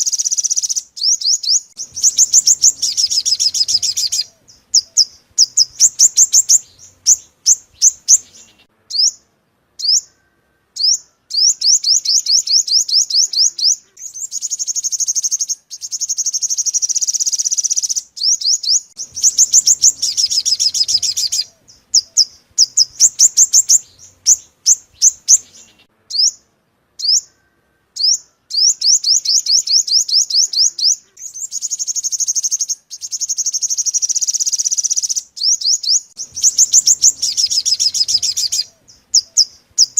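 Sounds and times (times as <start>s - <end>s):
bird trills and chirps: 0.0s - 39.9s.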